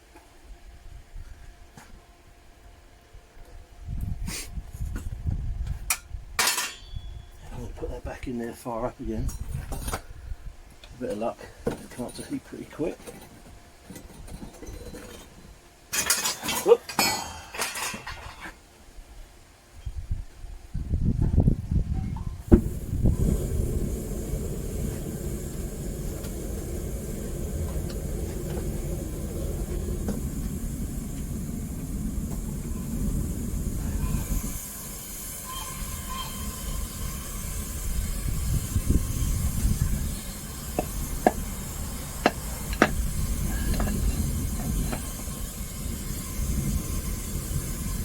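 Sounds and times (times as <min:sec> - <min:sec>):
propane burner rumbling with hiss: 0:00.0 - 0:48.0.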